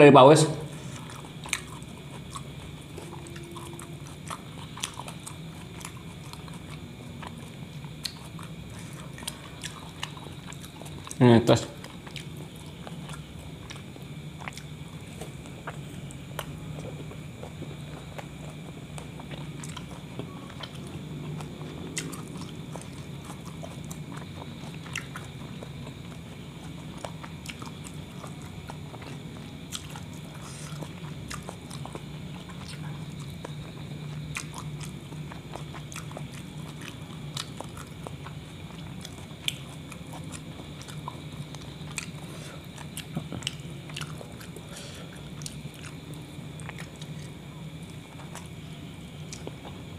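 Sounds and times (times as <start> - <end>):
steady low hum: 0.0 - 49.9
person chewing: 0.7 - 49.9.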